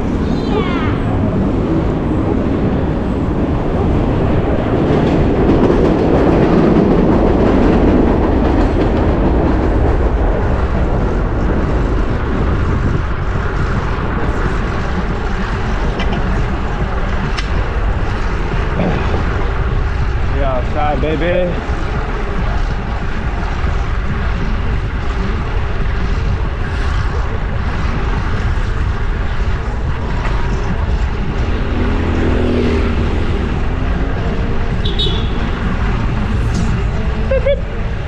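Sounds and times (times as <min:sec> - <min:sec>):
road rumble: 0:00.0 - 0:38.0
wind rushing on microphone: 0:00.0 - 0:38.0.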